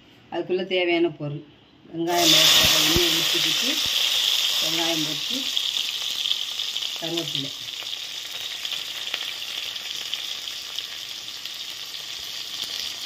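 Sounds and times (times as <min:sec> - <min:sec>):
onions sizzling in hot oil: 0:02.1 - 0:13.0.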